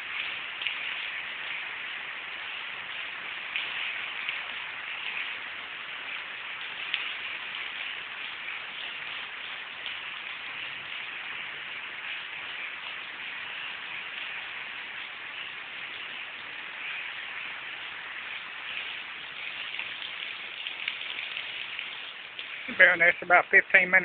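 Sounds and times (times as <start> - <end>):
rain shower falling: 0.0 - 24.0.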